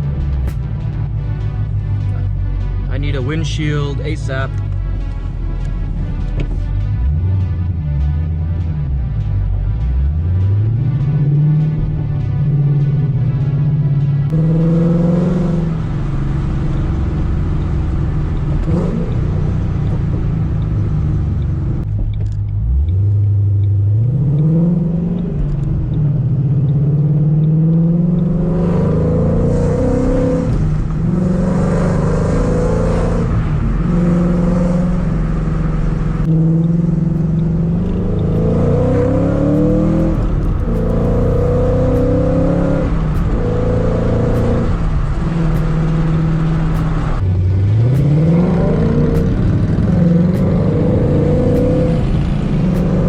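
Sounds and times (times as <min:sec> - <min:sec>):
supercharged car engine accelerating: 0:00.0 - 0:53.0.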